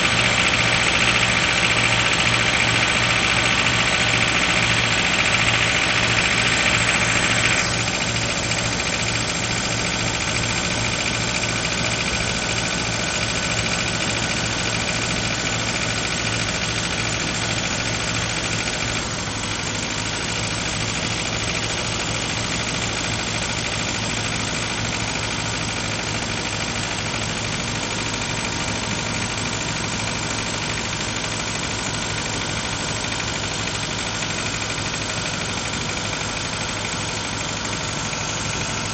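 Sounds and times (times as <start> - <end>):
car engine idling: 0.0 - 38.9
engine knocking: 0.0 - 38.9.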